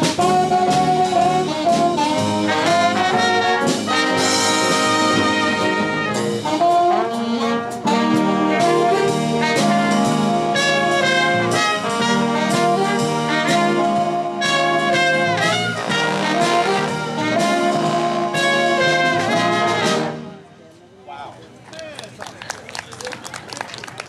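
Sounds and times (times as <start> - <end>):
brass and saxophone band playing: 0.0 - 20.6.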